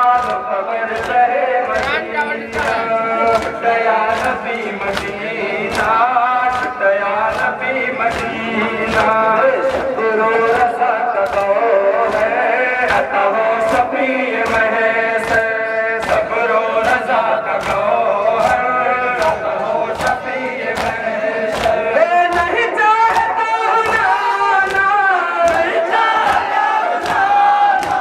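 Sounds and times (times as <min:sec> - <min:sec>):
crowd chanting along: 0:00.0 - 0:28.0
men chanting over loudspeakers: 0:00.0 - 0:28.0
rhythmic chest-beating slaps: 0:00.0 - 0:28.0.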